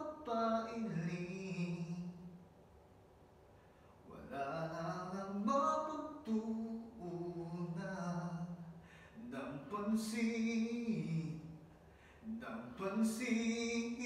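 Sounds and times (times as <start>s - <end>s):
man singing a cappella: 0.0s - 2.4s, 4.0s - 14.0s.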